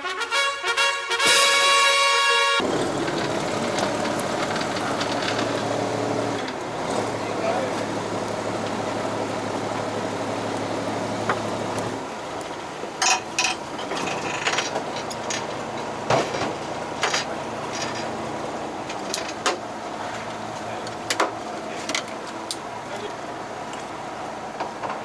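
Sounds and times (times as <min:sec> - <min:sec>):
boat engine humming: 0:02.6 - 0:25.0.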